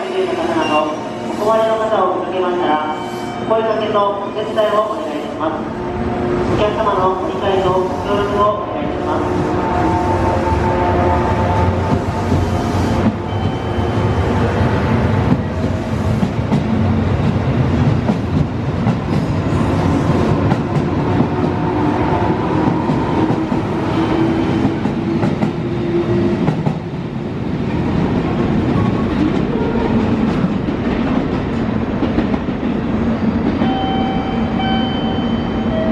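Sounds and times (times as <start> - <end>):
train rumble: 4.1 - 35.9.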